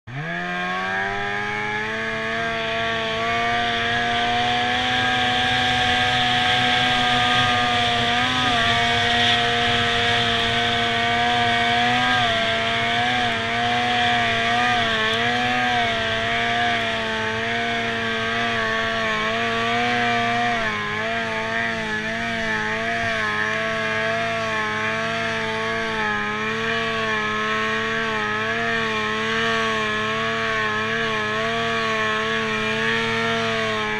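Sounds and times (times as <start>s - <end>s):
snowmobile engine revving high: 0.0s - 33.9s.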